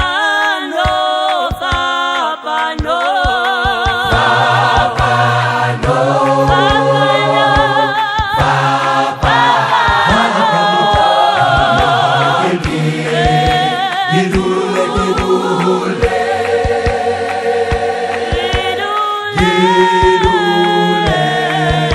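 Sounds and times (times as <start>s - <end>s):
a cappella group singing: 0.0s - 21.9s.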